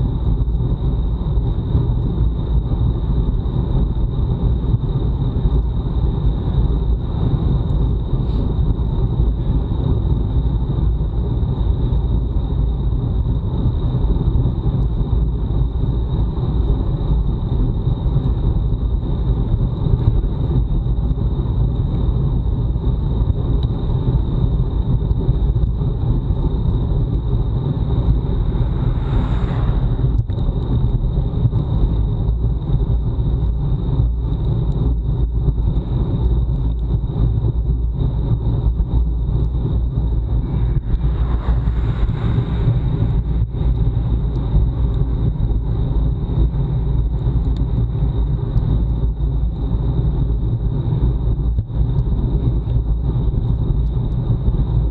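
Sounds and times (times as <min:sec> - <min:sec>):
road noise: 0:00.0 - 0:54.9
wind buffeting microphone: 0:00.0 - 0:54.9.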